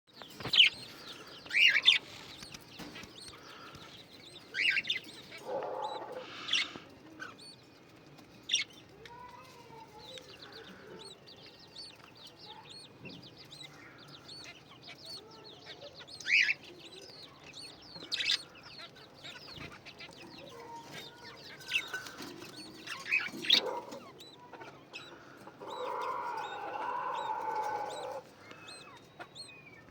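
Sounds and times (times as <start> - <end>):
young birds chirping: 0.1 - 29.9.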